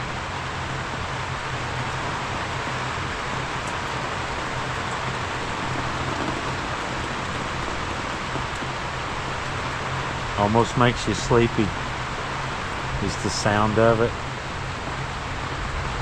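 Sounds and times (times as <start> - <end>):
heavy rain on a tarp: 0.0 - 16.0.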